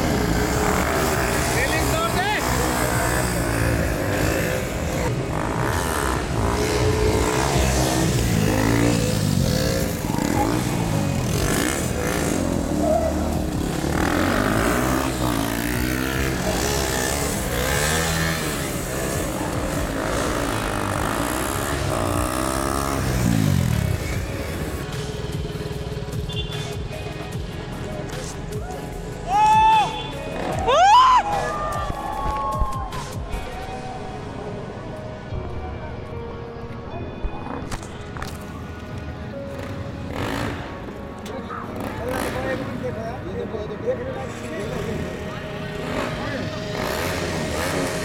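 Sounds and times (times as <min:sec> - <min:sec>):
motorcycle engines revving: 0:00.0 - 0:32.0, 0:37.4 - 0:48.0.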